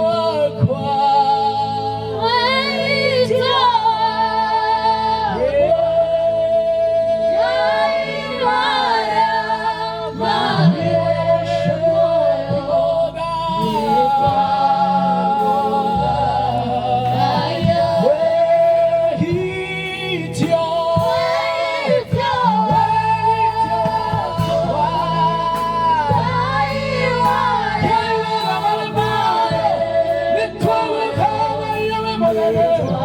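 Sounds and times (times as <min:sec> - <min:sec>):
low keyboard accompaniment: 0:00.0 - 0:33.0
voices singing gospel: 0:00.0 - 0:33.0.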